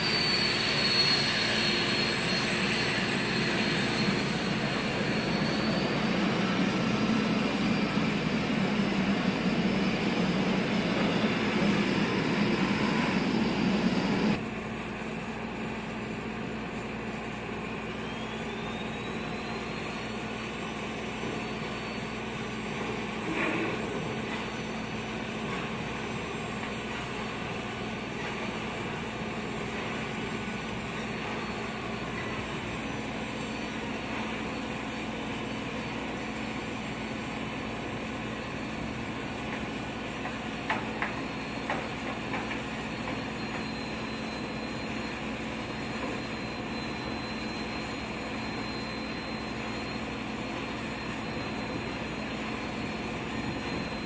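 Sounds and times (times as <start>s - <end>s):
cargo loader engine drone: 0.0s - 54.0s.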